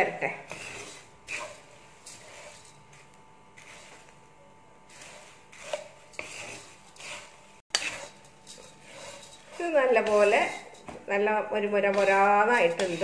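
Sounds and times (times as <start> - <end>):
wooden spatula scraping rice flakes: 0.4 - 4.2, 4.8 - 11.0, 11.7 - 13.0.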